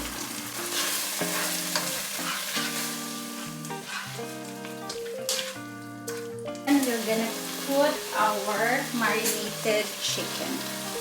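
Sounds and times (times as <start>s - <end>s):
masala sizzling in a pan: 0.0s - 11.0s
soft background music: 0.0s - 11.0s.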